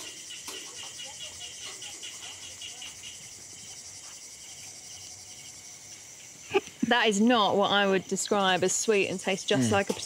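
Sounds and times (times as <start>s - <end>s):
night insects chirping: 0.0s - 10.0s.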